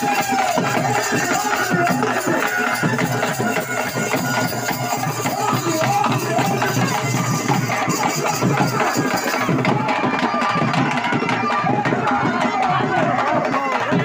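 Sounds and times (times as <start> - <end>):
crowd voices: 0.0 - 14.0
festival music with fast drumming: 0.0 - 14.0.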